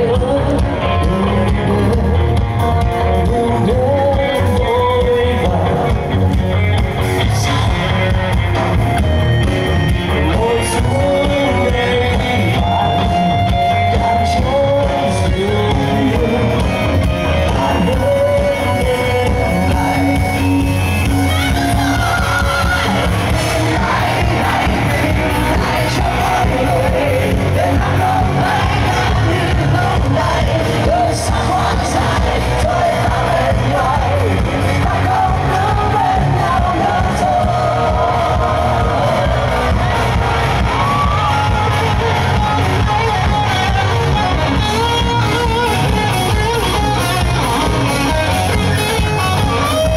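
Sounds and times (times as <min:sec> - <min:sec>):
lead voice singing: 0:00.0 - 0:49.9
rock band playing live: 0:00.0 - 0:49.9.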